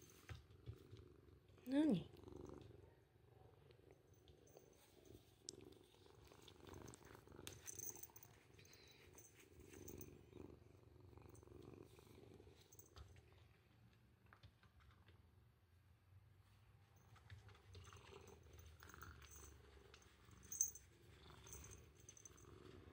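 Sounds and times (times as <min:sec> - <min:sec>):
cat purring: 0:00.0 - 0:15.4, 0:17.0 - 0:22.9.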